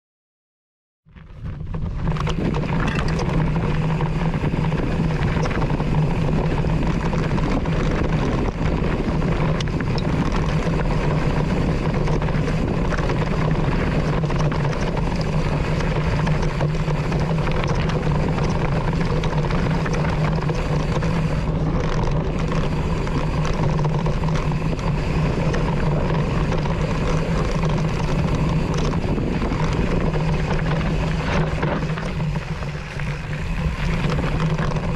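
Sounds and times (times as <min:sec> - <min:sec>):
bike rattling: 0:01.1 - 0:34.9
bike tyres rolling on dirt: 0:01.1 - 0:34.9
wind rushing over microphone: 0:01.1 - 0:34.9.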